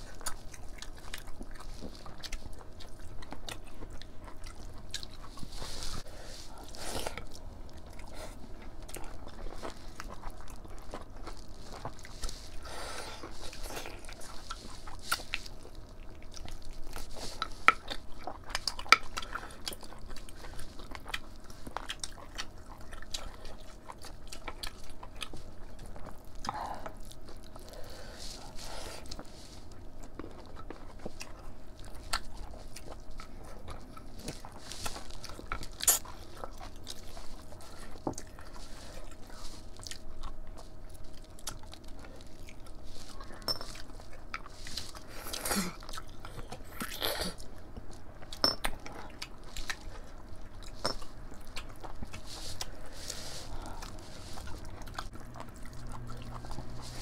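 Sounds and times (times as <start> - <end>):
chewing: 0.0 - 57.0
fingers mixing wet food: 0.1 - 57.0.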